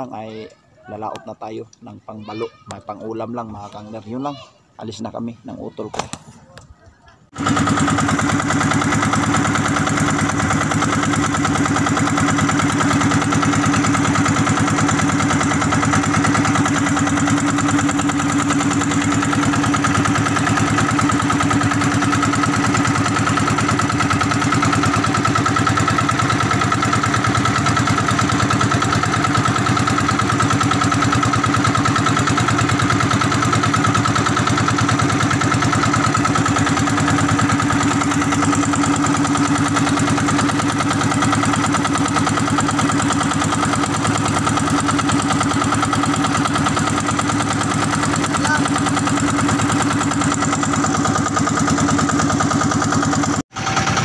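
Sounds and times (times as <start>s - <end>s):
boat motor running: 7.3s - 54.0s.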